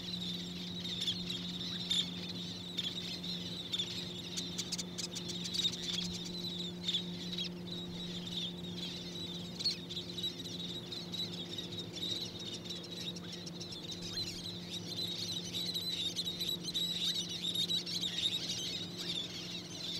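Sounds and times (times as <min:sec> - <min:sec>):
bird chirps and peeps: 0:00.0 - 0:19.9
steady low hum: 0:00.0 - 0:19.9.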